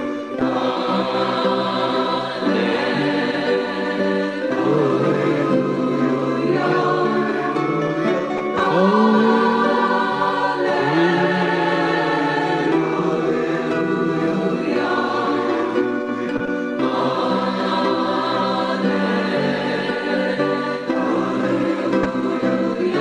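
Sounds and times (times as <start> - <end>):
choir-like voices sustained notes: 0.0 - 23.0.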